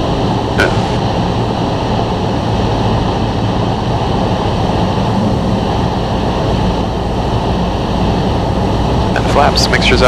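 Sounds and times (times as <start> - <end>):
airflow noise: 0.0 - 10.0
airplane engine drone in cabin: 0.0 - 10.0.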